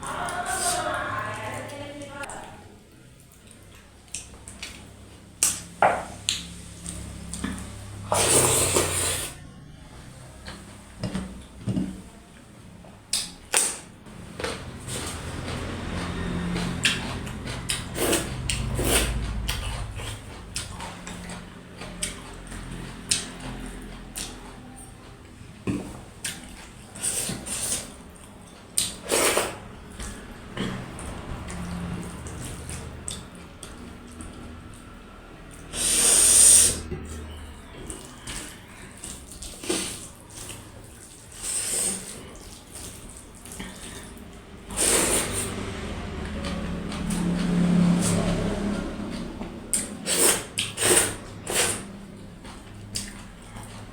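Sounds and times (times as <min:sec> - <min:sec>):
chewing with wet mouth smacks: 0:02.3 - 0:07.8, 0:13.1 - 0:35.8, 0:36.8 - 0:53.9.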